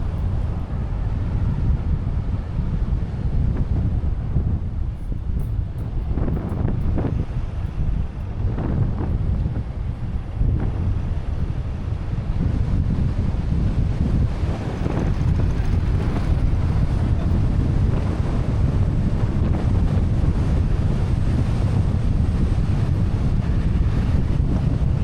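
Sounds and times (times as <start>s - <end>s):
tyre and road noise: 0.0s - 25.0s
wind buffeting microphone: 0.0s - 25.0s.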